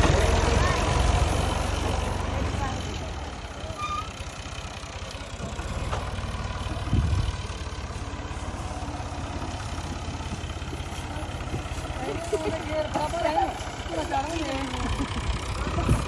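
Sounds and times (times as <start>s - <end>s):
diesel engine low throb: 0.0s - 16.0s.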